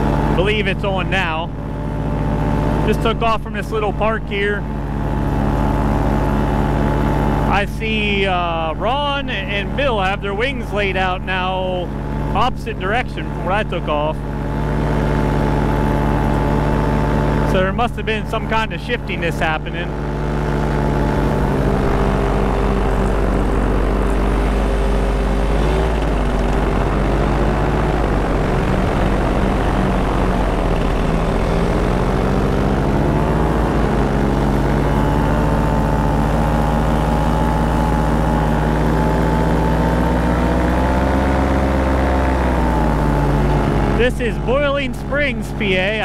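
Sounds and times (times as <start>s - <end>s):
paramotor engine and propeller: 0.0s - 46.0s.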